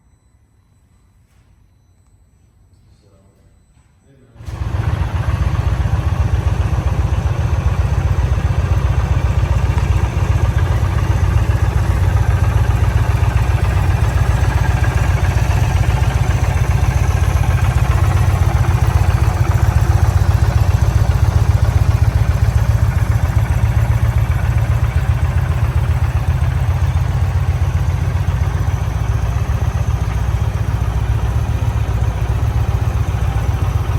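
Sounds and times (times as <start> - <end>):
motorcycle engine idling: 4.4 - 33.9.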